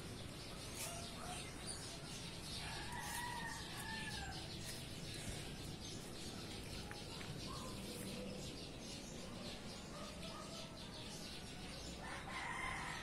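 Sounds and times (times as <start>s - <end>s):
birds calling: 0.0s - 13.0s
steady background noise: 0.0s - 13.0s.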